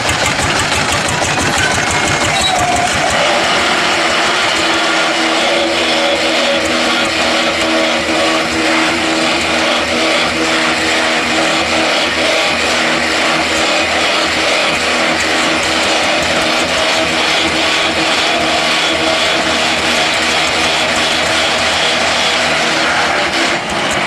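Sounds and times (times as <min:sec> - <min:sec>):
low pulsing hum: 0:00.0 - 0:24.0
machine motor whine: 0:00.0 - 0:24.0.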